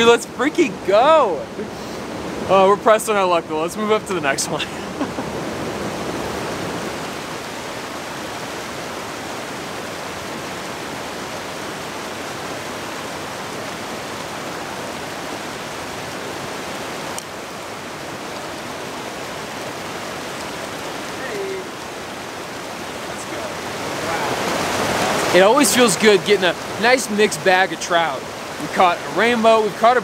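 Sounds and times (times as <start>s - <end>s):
creek water rushing over rocks: 0.0s - 30.0s.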